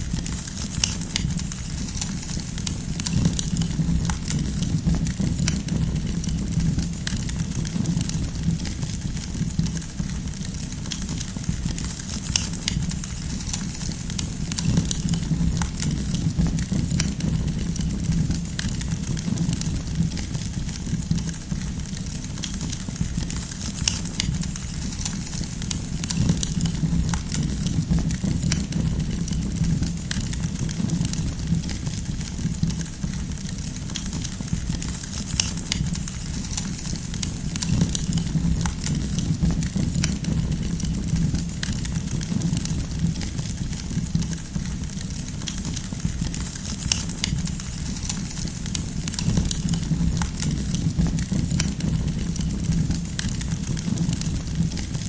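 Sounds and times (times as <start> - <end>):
firewood crackling and popping: 0.0 - 55.0
low rumble of flames: 0.0 - 55.0.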